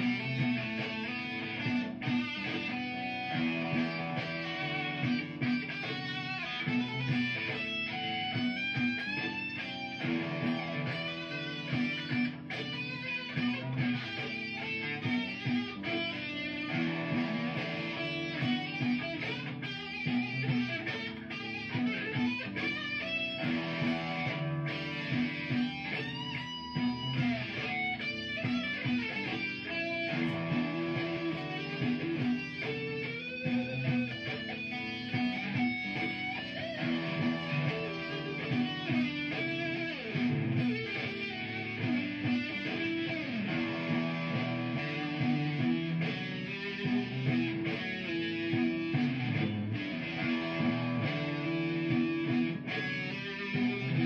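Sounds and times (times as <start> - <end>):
electric guitar lead solo: 0.0 - 54.0
looped guitar backing: 0.0 - 54.0.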